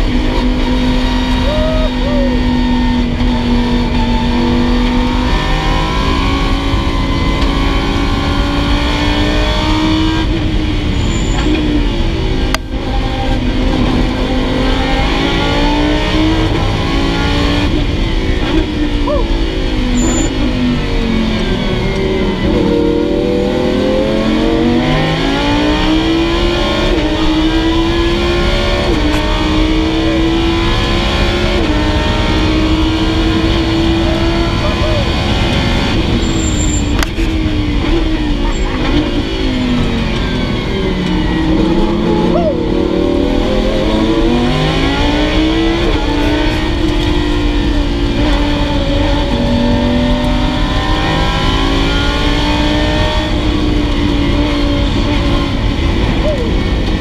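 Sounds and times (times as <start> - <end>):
car engine revving with upshifts: 0.0 - 57.0.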